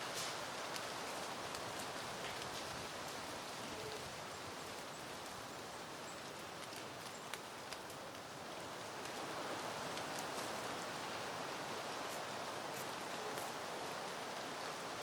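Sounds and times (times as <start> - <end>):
light ticks of leaves: 0.0 - 15.0
wind rustling through foliage: 0.0 - 15.0.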